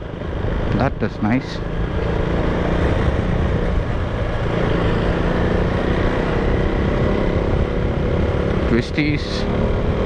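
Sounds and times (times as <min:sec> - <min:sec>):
road and wind noise: 0:00.0 - 0:10.0
vehicle engine running: 0:00.0 - 0:10.0.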